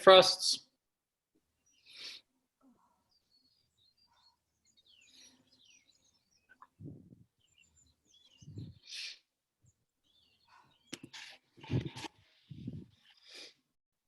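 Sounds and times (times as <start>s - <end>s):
faint bird chirps: 1.5s - 13.3s.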